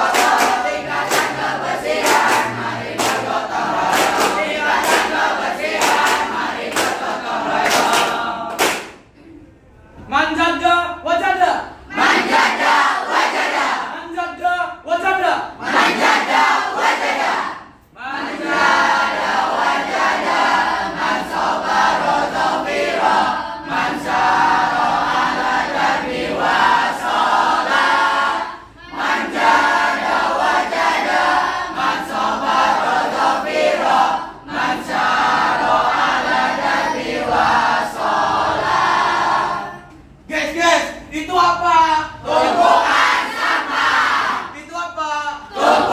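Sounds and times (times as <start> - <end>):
group chanting and singing: 0.0 - 9.2, 11.0 - 45.9.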